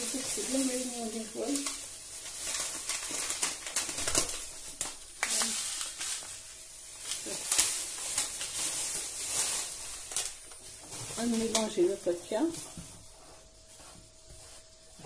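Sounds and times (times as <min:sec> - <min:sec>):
kitchen rustling and clicks: 0:00.0 - 0:13.1.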